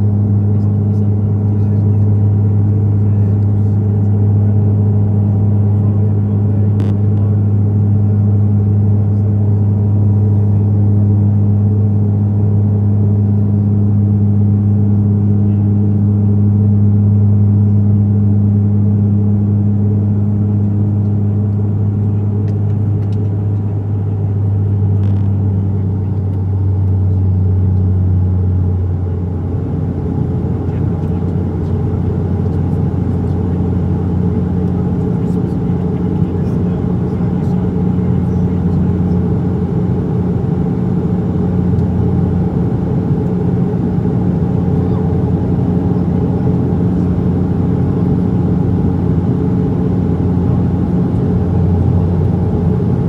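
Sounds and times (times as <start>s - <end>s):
turboprop propeller drone: 0.0s - 53.0s.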